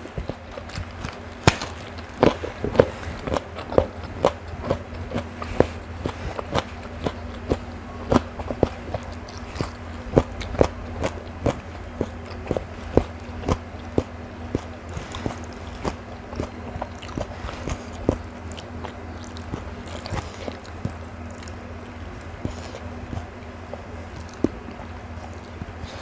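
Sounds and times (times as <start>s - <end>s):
person chewing raw vegetables: 0.0s - 26.0s
steady low hum: 0.0s - 26.0s.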